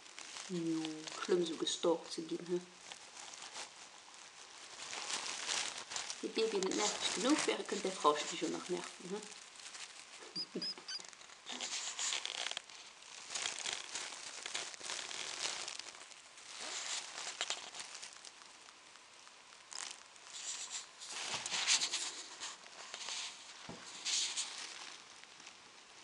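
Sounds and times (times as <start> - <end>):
mouse rustling bedding: 0.0 - 26.0.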